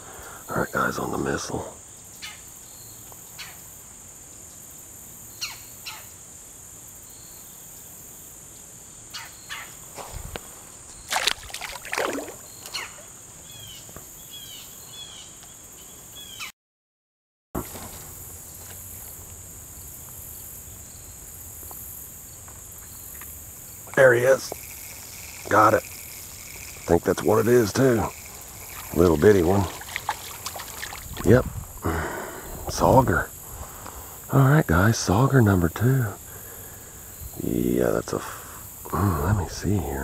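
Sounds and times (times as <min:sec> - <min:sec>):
crickets chirping: 0:00.0 - 0:16.5, 0:17.6 - 0:40.0.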